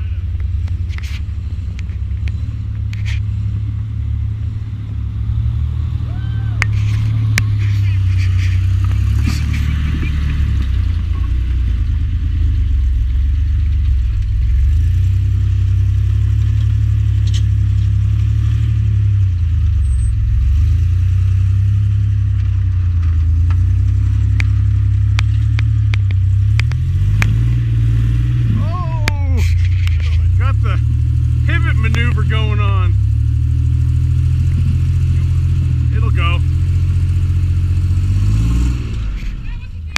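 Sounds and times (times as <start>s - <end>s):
off-road vehicle engine at low revs: 0.0s - 39.9s.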